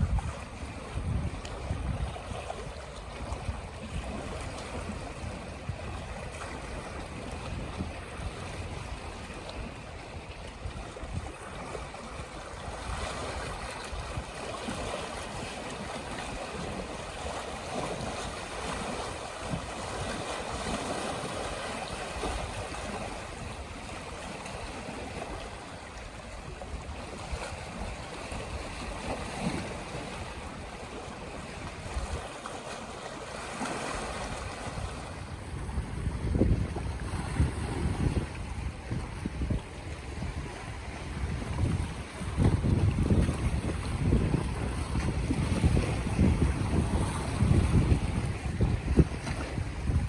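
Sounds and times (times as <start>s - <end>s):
small waves lapping: 0.0s - 50.0s
wind buffeting microphone: 0.0s - 50.0s.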